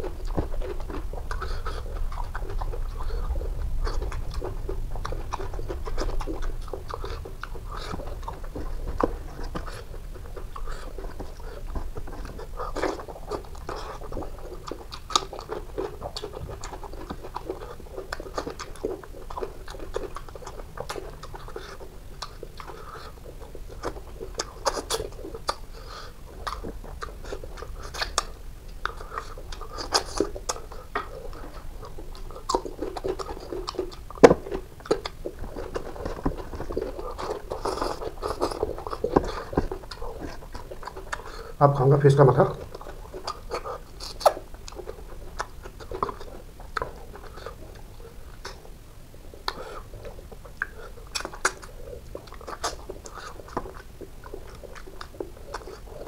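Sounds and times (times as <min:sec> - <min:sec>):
man chewing and lip smacking: 0:00.0 - 0:56.0.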